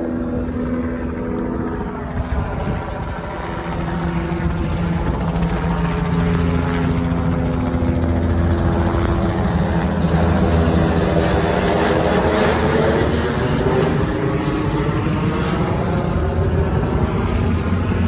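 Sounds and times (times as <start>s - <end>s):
helicopter flying overhead: 0.0s - 18.0s.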